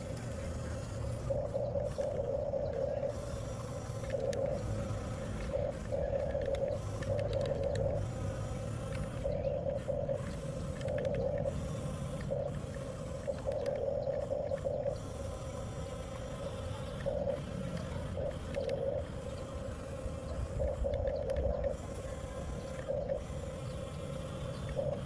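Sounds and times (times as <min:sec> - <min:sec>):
electric motors whining: 0:00.0 - 0:25.0
tracks and gears clicking: 0:00.0 - 0:25.0.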